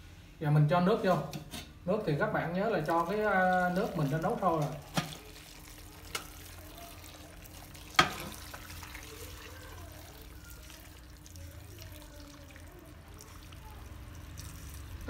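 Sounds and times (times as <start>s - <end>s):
water pouring into metal pot: 2.7s - 15.0s.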